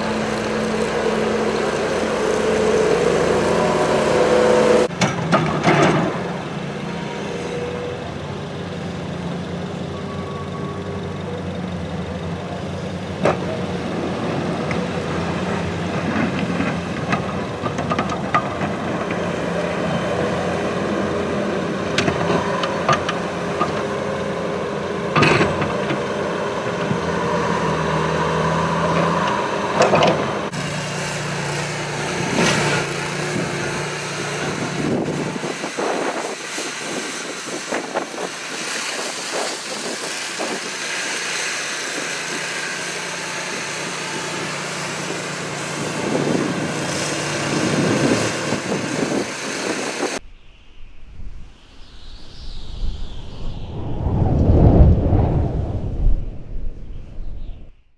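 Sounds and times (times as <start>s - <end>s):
loader engine running: 0.0s - 50.2s.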